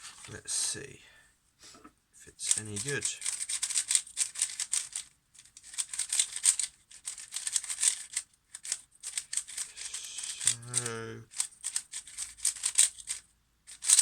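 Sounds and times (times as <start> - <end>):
puzzle cube plastic clicking: 2.4 - 14.0.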